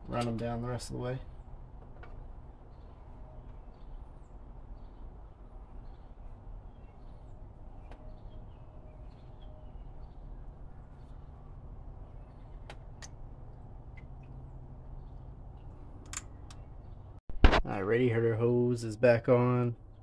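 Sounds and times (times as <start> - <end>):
birds chirping faintly: 0.0 - 17.2.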